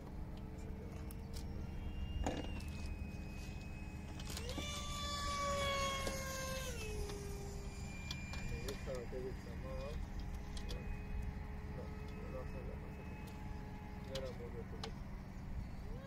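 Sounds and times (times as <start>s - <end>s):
jet fan whining: 0.0s - 16.0s.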